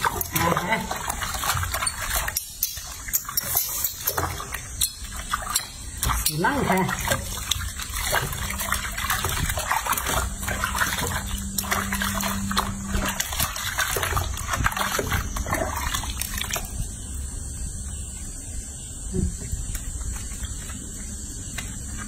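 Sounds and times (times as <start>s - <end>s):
water splashing in a sink: 0.0s - 18.4s
low steady hum: 0.0s - 22.0s.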